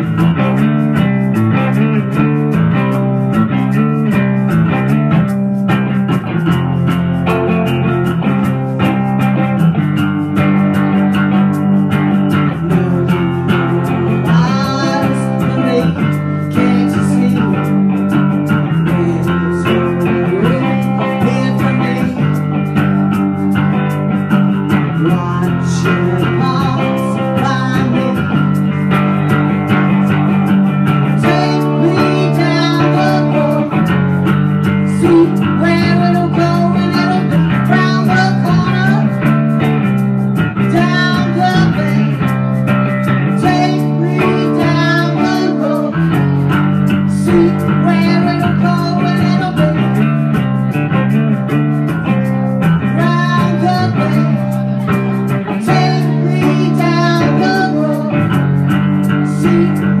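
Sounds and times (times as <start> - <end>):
live blues-rock band: 0.0 - 60.0.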